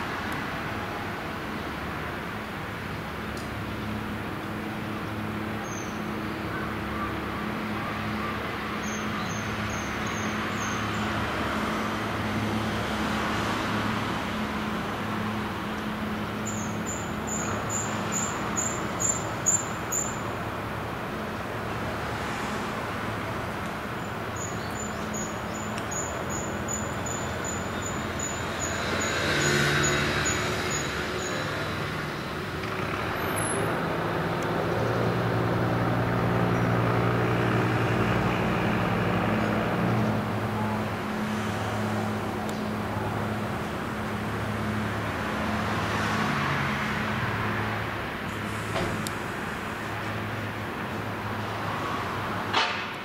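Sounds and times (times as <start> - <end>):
ship diesel engine humming: 0.0 - 45.6.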